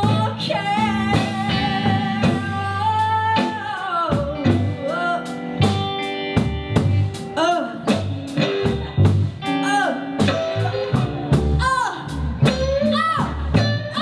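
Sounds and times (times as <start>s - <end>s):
bent electric guitar phrases: 0.0s - 14.0s
rock band playing: 0.0s - 14.0s.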